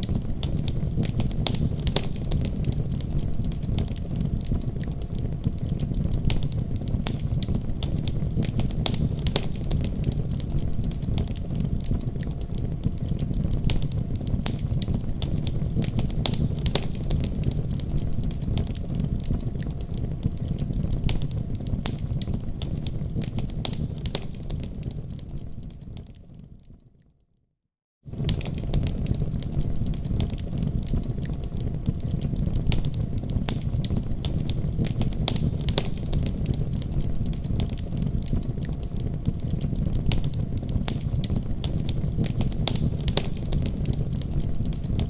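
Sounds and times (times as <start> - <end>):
fire crackling and popping: 0.0 - 26.8, 28.1 - 45.0
low rumble of flames: 0.0 - 26.9, 28.1 - 45.0.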